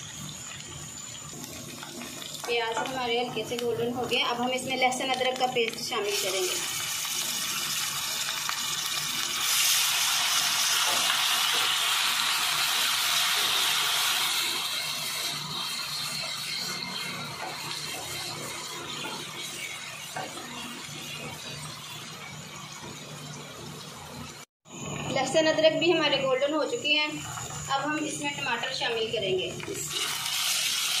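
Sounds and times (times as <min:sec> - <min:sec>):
paste sizzling in hot oil: 0:00.0 - 0:31.0.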